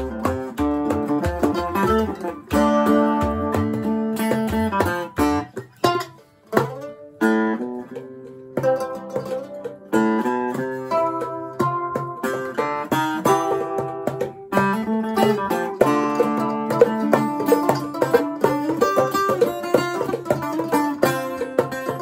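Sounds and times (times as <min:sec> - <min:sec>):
acoustic guitar picking: 0:00.0 - 0:22.0
mandolin: 0:00.0 - 0:22.0.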